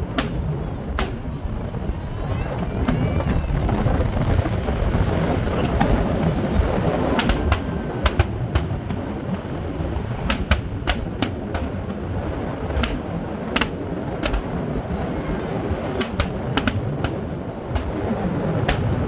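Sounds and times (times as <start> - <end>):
fireworks popping: 0.0 - 19.0
steady low rumble: 0.0 - 19.0.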